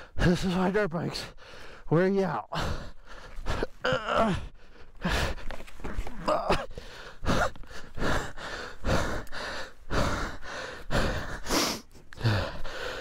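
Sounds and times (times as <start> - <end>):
heavy panting: 2.5 - 13.0.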